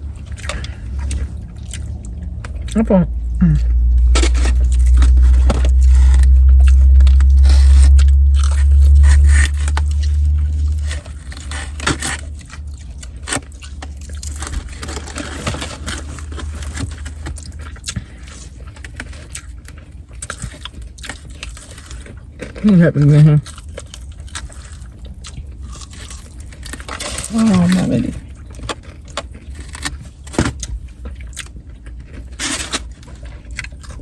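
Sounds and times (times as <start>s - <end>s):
chewing and crunching food: 0.0s - 34.0s
heavy low rumble: 0.0s - 34.0s
scraping and crackling clicks: 3.7s - 22.7s, 23.4s - 34.0s.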